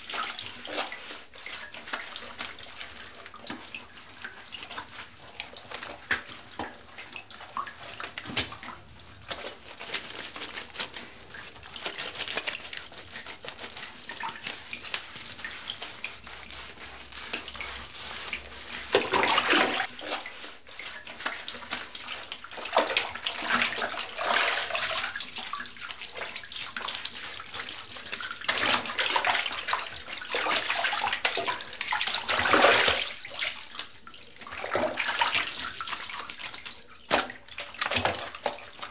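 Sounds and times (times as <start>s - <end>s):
water splashing in a bathtub: 0.0s - 38.9s.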